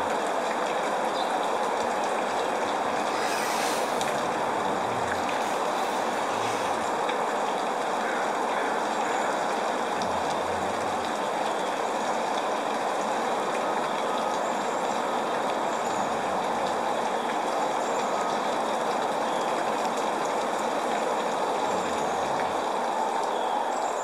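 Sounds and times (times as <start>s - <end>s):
raindrop ticks: 0.0s - 23.4s
steady rain hiss: 0.0s - 24.0s.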